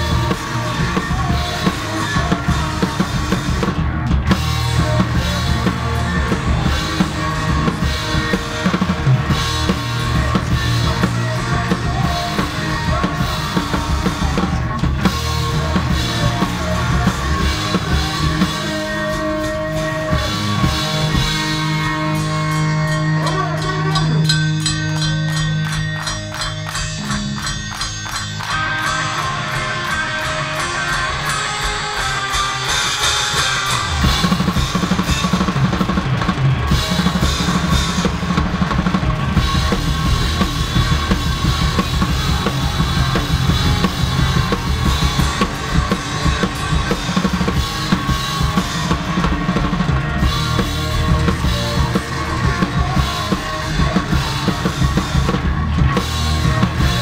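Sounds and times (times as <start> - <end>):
bass drum: 0.0 - 26.4, 33.7 - 57.0
punk rock band playing live: 0.0 - 57.0.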